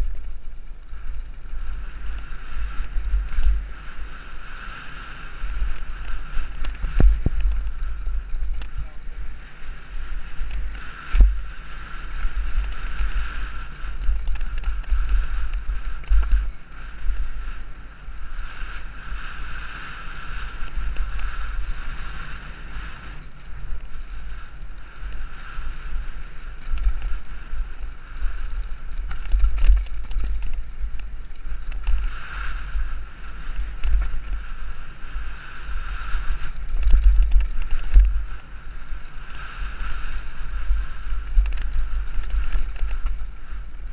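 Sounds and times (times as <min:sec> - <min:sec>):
bike rattling over bumps: 0:00.0 - 0:43.9
bike riding buzz: 0:00.0 - 0:43.9
wind rumble on microphone: 0:00.0 - 0:43.9.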